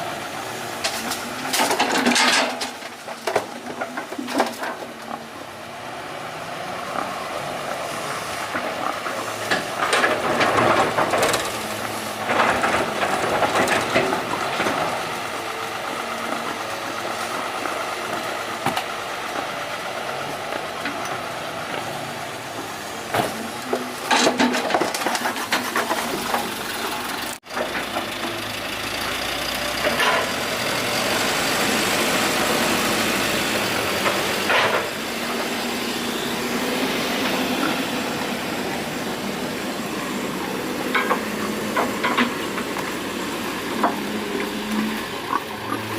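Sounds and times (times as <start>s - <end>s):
excavator diesel engine under load: 0.0s - 45.9s
excavator clattering: 0.1s - 5.6s, 6.8s - 45.9s.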